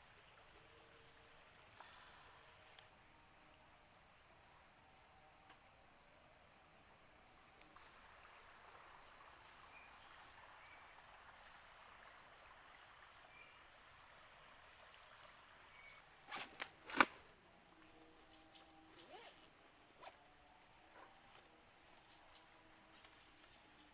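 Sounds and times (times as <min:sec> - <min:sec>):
faint insect chirping: 0:00.0 - 0:23.9.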